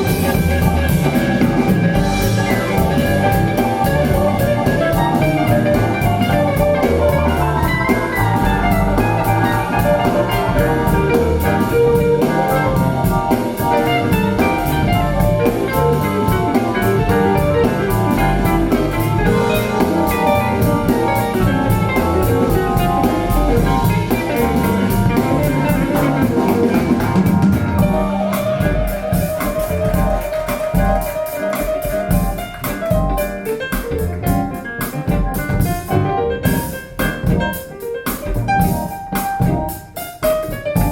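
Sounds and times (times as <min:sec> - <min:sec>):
instrumental music over loudspeakers: 0:00.0 - 0:40.9.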